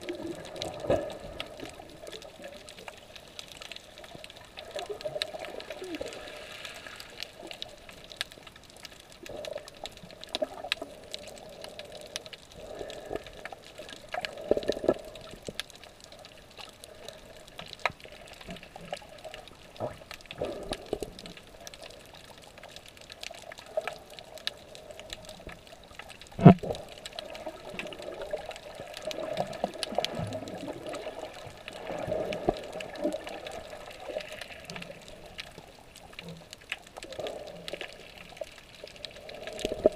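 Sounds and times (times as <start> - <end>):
faint clicks: 0.0 - 39.9
water sloshing and gurgling: 0.0 - 39.9.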